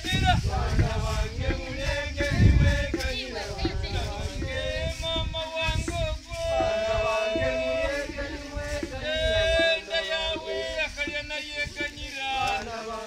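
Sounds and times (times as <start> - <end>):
man singing over a steady beat: 0.0 - 13.0.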